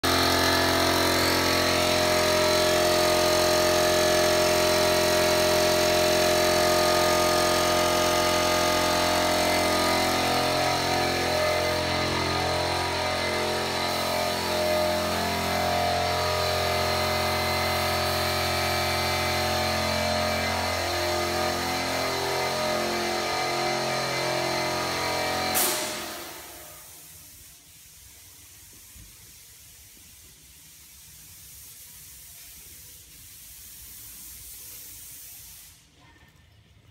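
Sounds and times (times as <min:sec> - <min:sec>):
air compressor running: 0:00.0 - 0:36.0
spray gun air hiss: 0:00.0 - 0:36.0.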